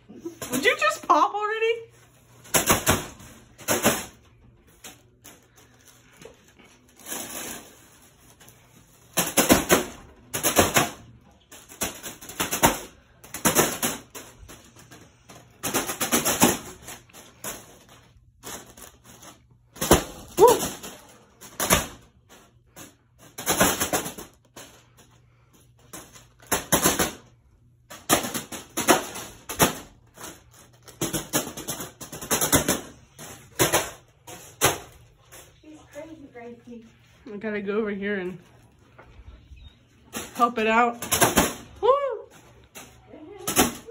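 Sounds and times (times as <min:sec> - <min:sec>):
fan blades whacking foil balloon: 0:00.0 - 0:43.9.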